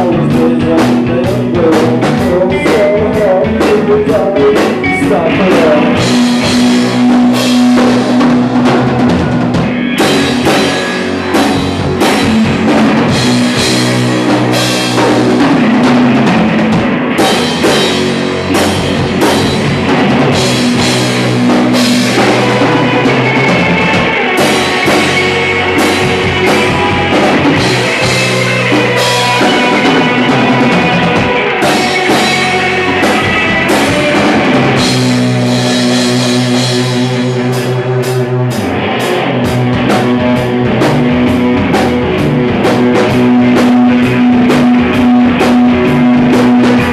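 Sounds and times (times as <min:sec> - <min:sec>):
drum kit beat: 0:00.0 - 0:46.9
rock band playing live: 0:00.0 - 0:46.9.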